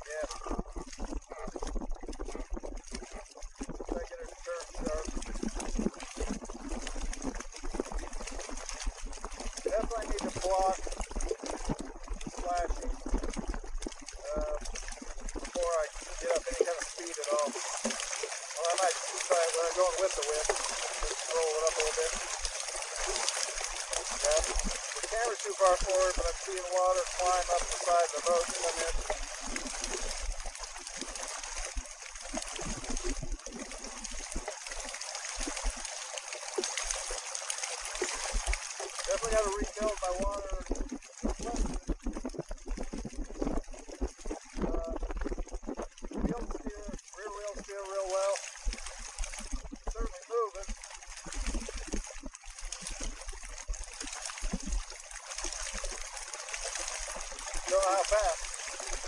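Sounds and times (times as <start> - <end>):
paddle wheels splashing water: 0.0 - 59.0.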